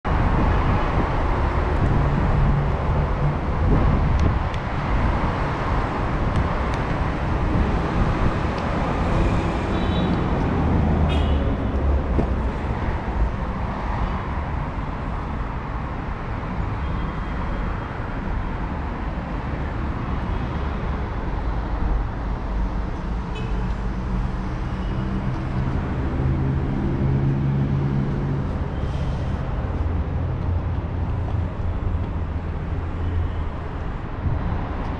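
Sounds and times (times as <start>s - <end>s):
road traffic: 0.0s - 34.9s.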